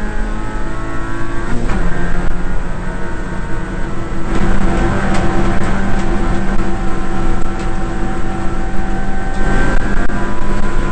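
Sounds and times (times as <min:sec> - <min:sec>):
race car engine running hard: 0:00.0 - 0:10.9.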